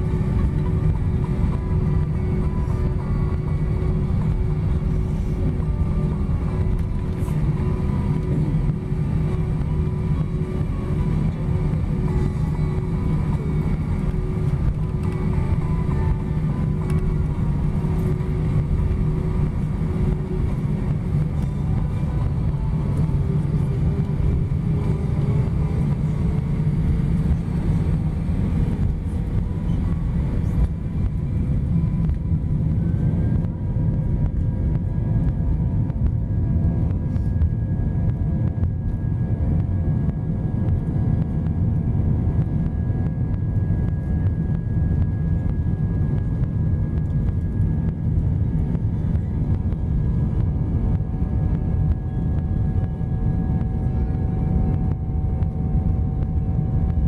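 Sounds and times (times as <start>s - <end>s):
aircraft cabin rumble: 0.0s - 57.0s
faint jet engine whine: 0.0s - 57.0s
higher whine: 0.0s - 57.0s.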